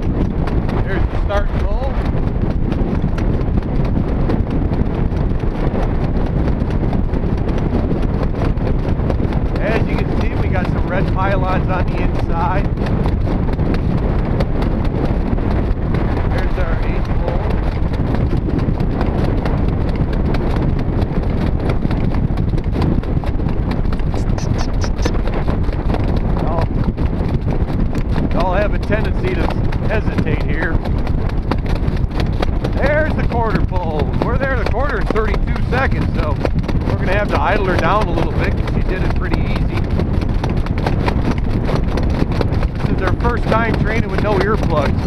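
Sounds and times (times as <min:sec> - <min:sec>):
horse hooves on dirt track: 0:00.0 - 0:45.0
low rumble: 0:00.0 - 0:45.0
wind noise on microphone: 0:00.0 - 0:45.0.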